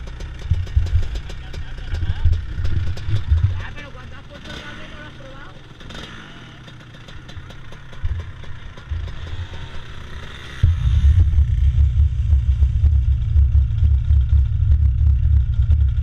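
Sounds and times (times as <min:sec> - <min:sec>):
go-kart engine running: 0:00.0 - 0:16.0.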